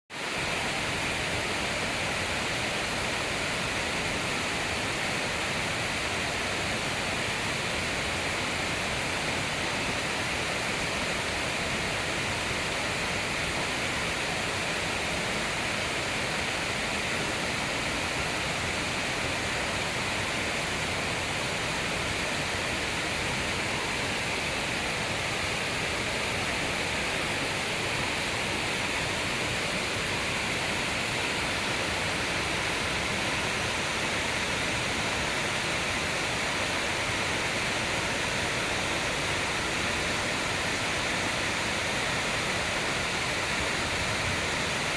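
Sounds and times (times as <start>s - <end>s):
waterfall rushing: 0.2s - 44.9s.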